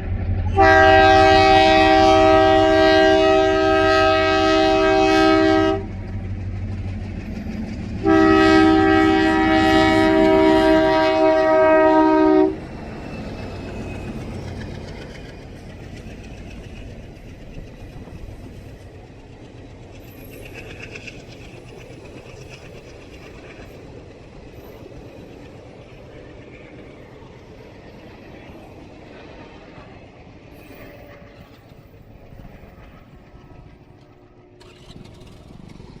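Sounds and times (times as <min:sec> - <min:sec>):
train rumbling along track: 0:00.0 - 0:36.0.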